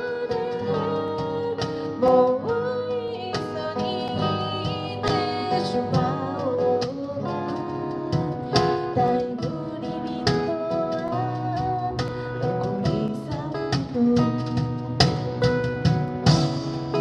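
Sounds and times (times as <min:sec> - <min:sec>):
acoustic guitar: 0:00.0 - 0:17.0
cajon beat: 0:00.0 - 0:17.0.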